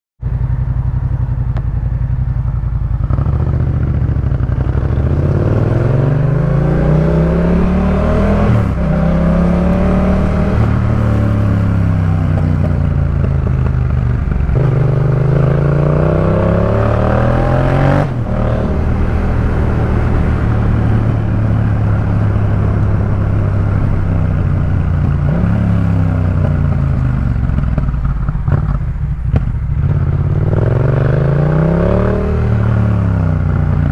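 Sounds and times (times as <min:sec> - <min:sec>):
motorcycle engine revving: 0:00.2 - 0:33.9.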